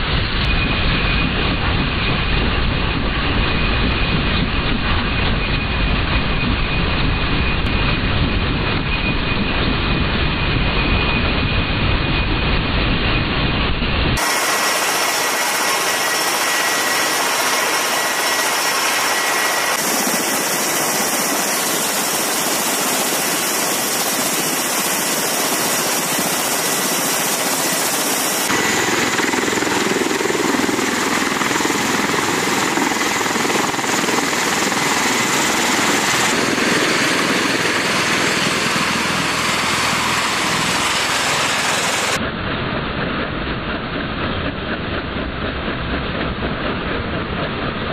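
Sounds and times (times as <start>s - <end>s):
aircraft engines and rotors running: 0.0s - 47.9s.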